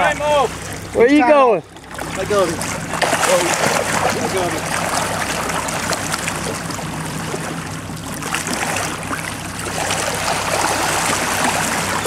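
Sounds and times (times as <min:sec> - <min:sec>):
steady low hum: 0:00.0 - 0:12.0
water splashing against boat hull: 0:00.0 - 0:12.0.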